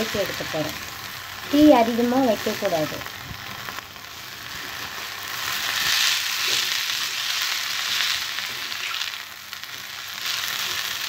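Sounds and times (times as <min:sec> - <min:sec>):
leaves sizzling in oil: 0:00.0 - 0:11.0.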